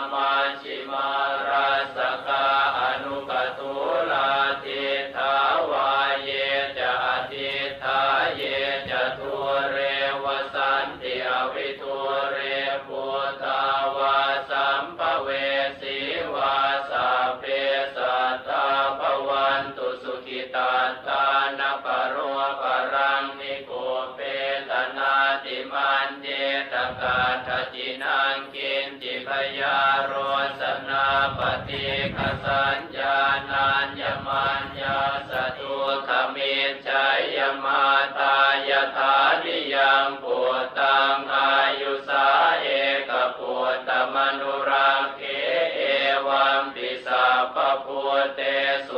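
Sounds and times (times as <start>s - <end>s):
rhythmic chanting: 0.0s - 48.9s.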